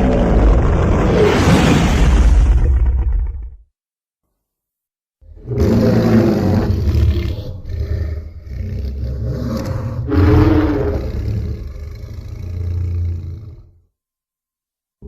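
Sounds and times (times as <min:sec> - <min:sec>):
deep dinosaur roar: 0:00.0 - 0:03.6, 0:05.3 - 0:13.8.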